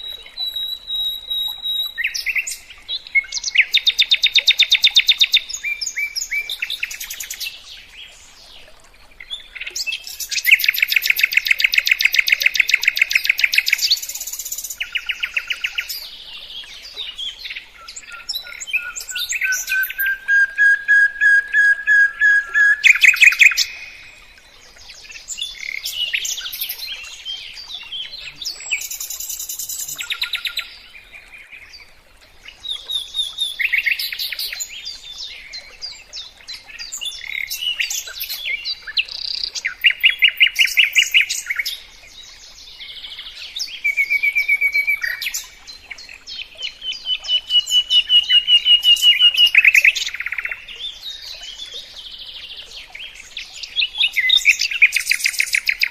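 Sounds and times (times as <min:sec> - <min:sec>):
songbird singing: 0:00.0 - 0:55.9.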